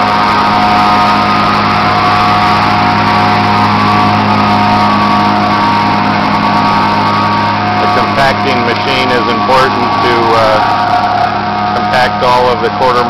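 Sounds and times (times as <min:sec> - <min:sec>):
plate compactor engine droning: 0:00.0 - 0:13.0.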